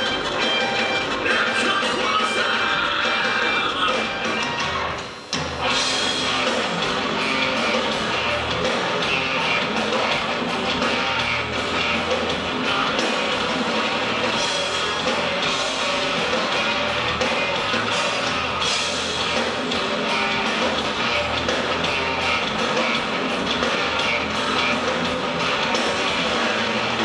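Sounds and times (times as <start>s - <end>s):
bass guitar: 0.0s - 27.0s
distorted electric guitars: 0.0s - 27.0s
drum kit with cymbals: 0.0s - 27.0s.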